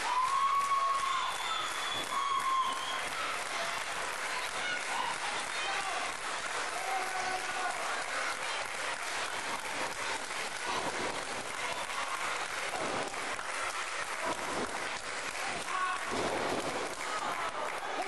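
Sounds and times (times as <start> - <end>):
audience applauding: 0.0 - 18.0
scattered crowd voices: 0.9 - 18.0.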